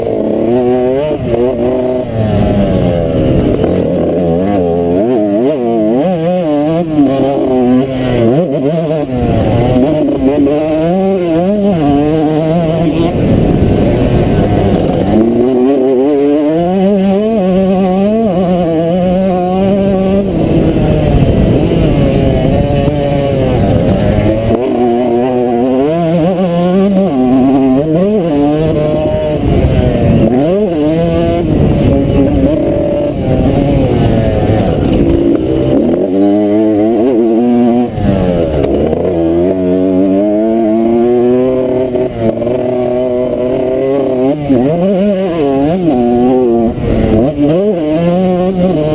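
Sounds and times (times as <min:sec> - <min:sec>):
motocross engine revving: 0:00.0 - 0:48.9
wind and riding noise: 0:00.0 - 0:48.9.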